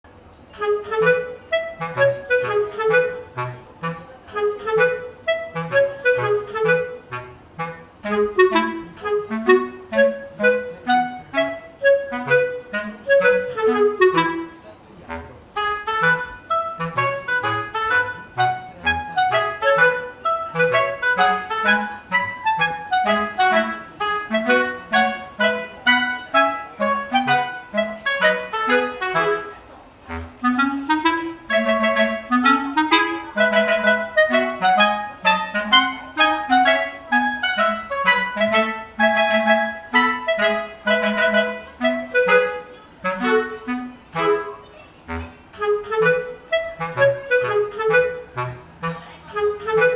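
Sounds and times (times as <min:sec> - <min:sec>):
bouncy woodwind tune: 0:00.1 - 0:49.9.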